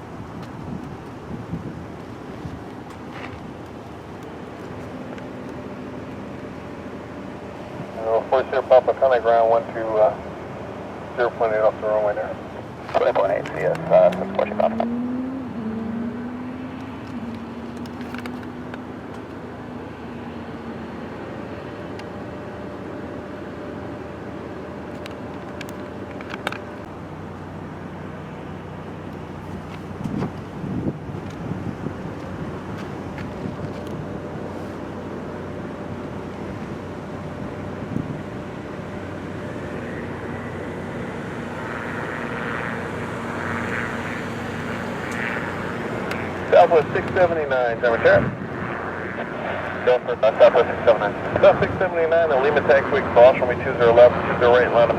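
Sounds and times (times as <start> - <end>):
constant jet rush: 0.0 - 54.9
jet engine whine: 0.0 - 54.9
high steady jet tone: 1.2 - 54.9.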